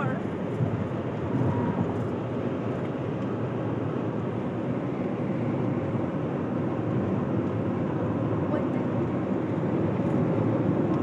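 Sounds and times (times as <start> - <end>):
car driving rumble from inside: 0.0 - 11.0.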